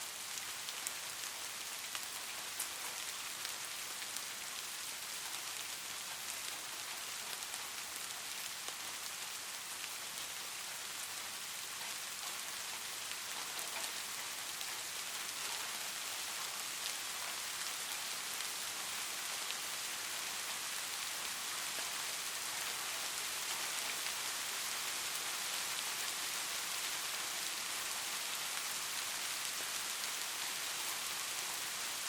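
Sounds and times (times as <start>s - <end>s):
light rain falling: 0.0s - 32.0s.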